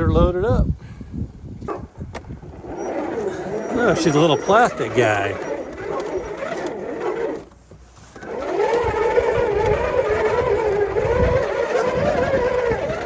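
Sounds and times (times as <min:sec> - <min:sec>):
wavering motor whine: 0:02.4 - 0:13.0.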